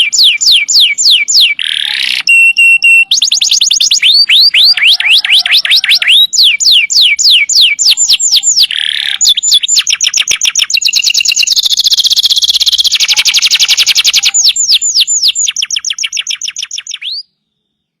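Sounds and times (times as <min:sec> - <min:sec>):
canary singing: 0:00.0 - 0:18.0.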